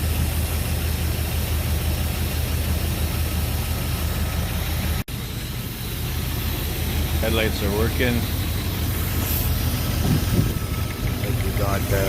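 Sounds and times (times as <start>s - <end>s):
car engine idling rattly: 0.0s - 12.0s.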